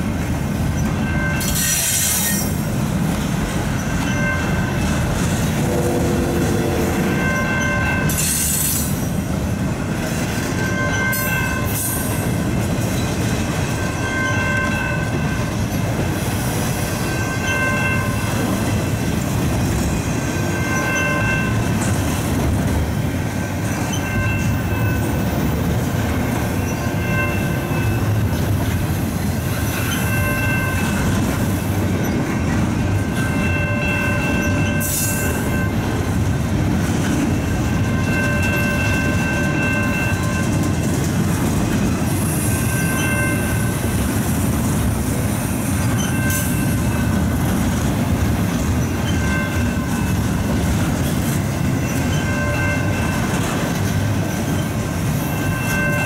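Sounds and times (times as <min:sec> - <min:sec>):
crossing bell ringing: 0:00.0 - 0:56.0
freight train rumbling on rails: 0:00.0 - 0:56.0.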